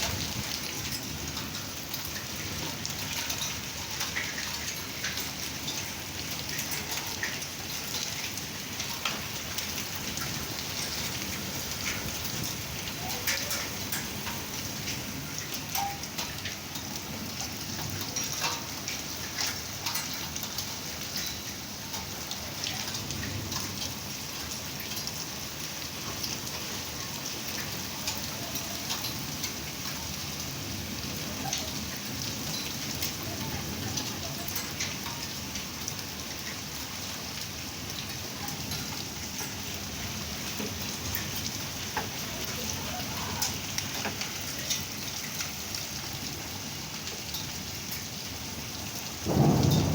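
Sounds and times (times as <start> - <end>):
heavy rain falling: 0.0 - 49.9
raindrops ticking: 0.0 - 49.9.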